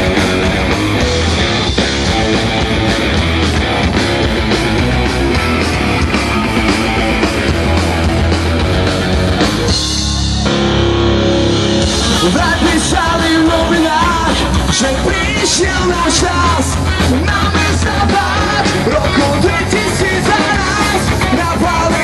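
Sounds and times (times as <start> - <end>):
drums: 0.0 - 22.0
electric guitars: 0.0 - 22.0.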